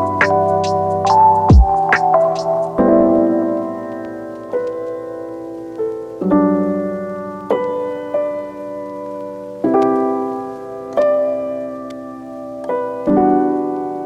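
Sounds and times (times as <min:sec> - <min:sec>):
slow gentle piano chords: 0:00.0 - 0:14.0.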